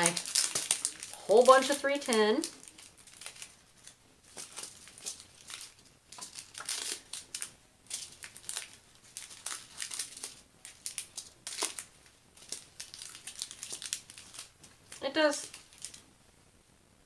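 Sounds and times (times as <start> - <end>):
plastic bags crinkling: 0.0 - 16.1.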